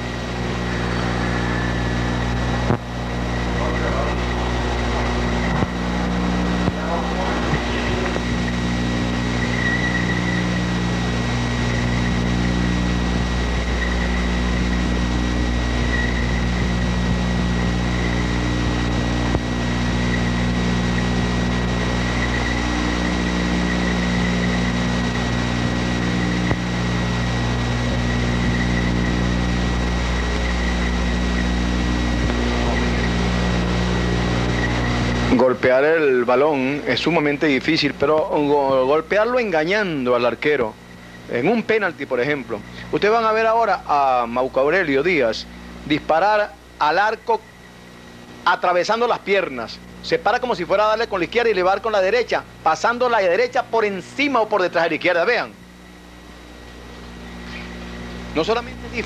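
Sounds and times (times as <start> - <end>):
low electrical hum: 0.0 - 59.0
thin high whine: 0.0 - 59.0.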